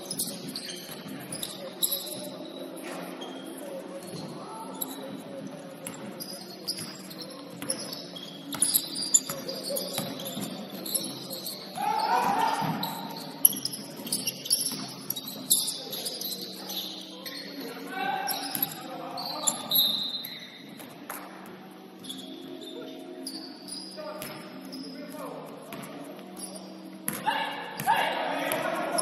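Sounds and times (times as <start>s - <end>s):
sneakers squeaking on hardwood: 0.0s - 5.1s, 5.9s - 21.1s, 21.9s - 25.0s.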